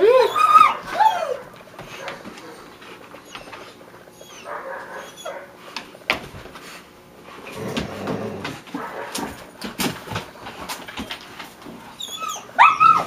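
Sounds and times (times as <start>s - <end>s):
dogs making play noises: 0.0s - 13.0s.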